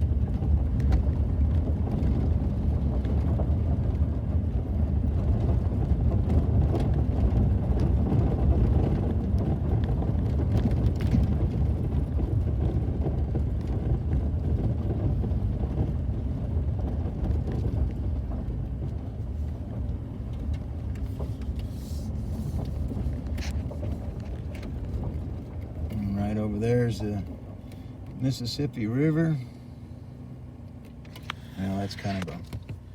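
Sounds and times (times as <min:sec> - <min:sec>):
car engine and road noise: 0:00.0 - 0:32.9.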